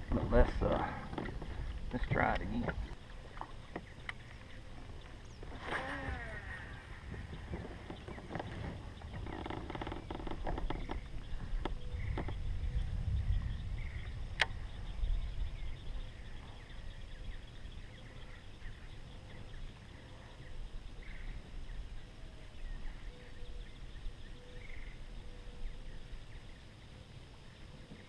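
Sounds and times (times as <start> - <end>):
wind rumble on microphone: 0.0 - 28.0
bird chirps: 1.9 - 28.0.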